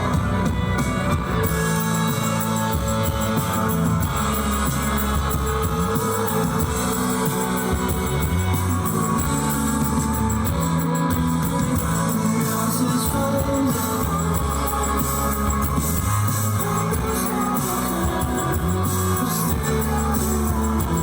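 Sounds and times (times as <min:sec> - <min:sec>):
bass guitar: 0:00.0 - 0:21.0
drum kit: 0:00.0 - 0:21.0.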